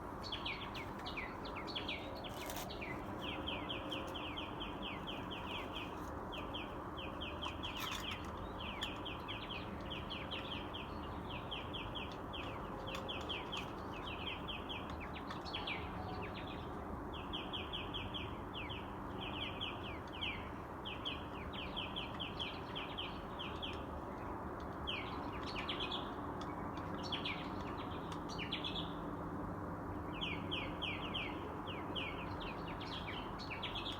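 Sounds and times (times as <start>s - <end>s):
city background hum: 0.0s - 33.9s
songbirds chirping: 0.0s - 33.9s.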